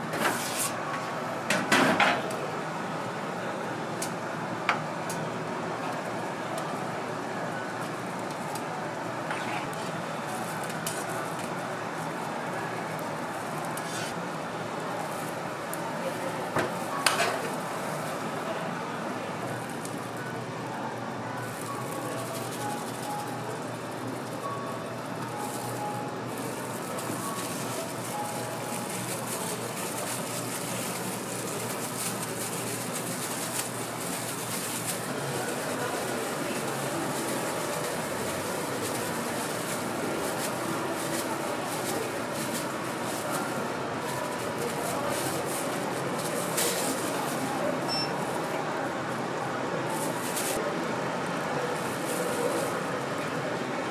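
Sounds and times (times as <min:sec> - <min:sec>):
street food stall hiss: 0:00.0 - 0:53.9.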